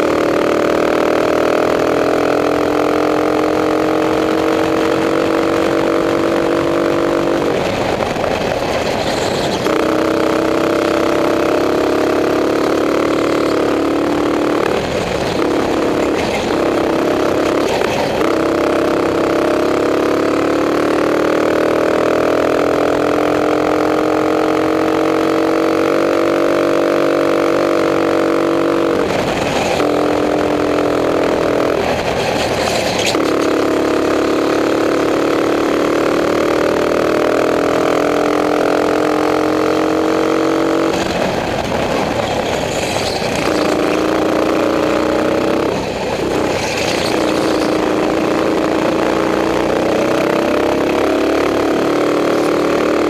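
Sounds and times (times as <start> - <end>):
racing kart engine: 0.0 - 53.0.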